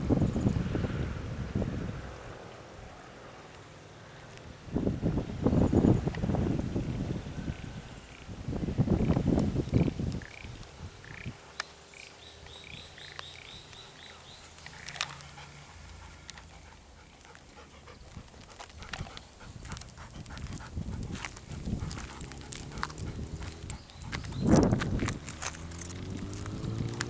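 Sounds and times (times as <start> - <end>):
dog sounds outdoors: 1.9 - 27.0.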